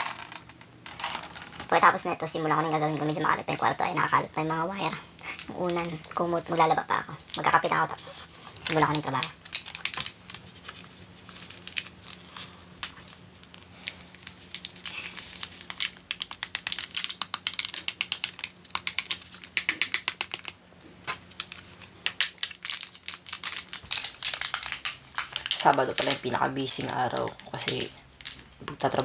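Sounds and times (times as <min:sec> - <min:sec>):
plastic wrapper crinkling: 0:00.0 - 0:01.8, 0:07.2 - 0:29.0.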